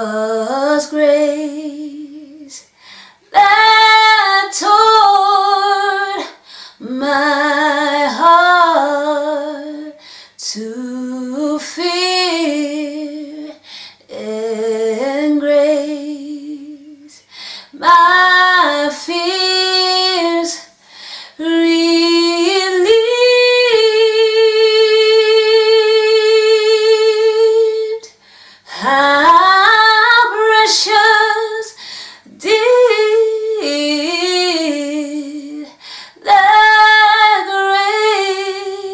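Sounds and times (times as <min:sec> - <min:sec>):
woman singing unaccompanied: 0:00.0 - 0:20.7, 0:21.4 - 0:38.9.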